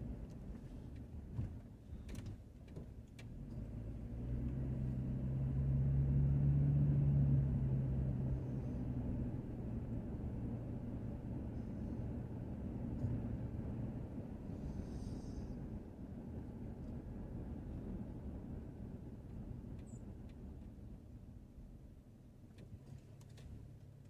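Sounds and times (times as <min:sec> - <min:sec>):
car engine drone: 0:03.1 - 0:24.0.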